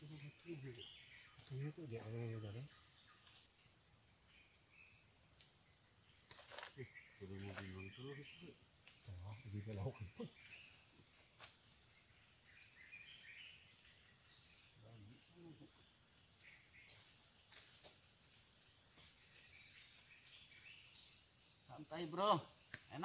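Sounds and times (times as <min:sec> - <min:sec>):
insect chorus drone: 0:00.0 - 0:23.0.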